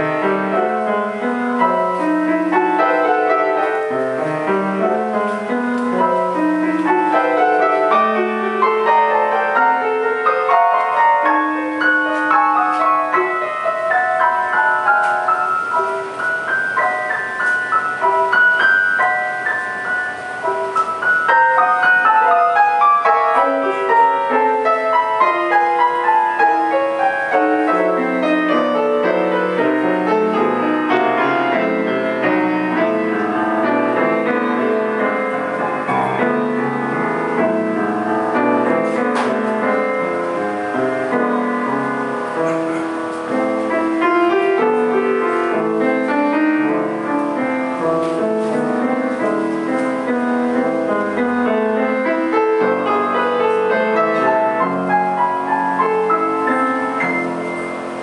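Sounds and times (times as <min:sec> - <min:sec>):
grand piano playing: 0:00.0 - 0:58.0.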